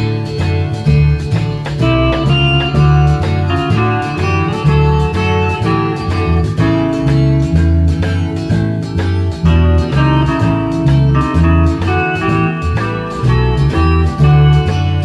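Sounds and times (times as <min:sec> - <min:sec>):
bass line: 0:00.0 - 0:15.0
guitar lead: 0:00.0 - 0:15.0.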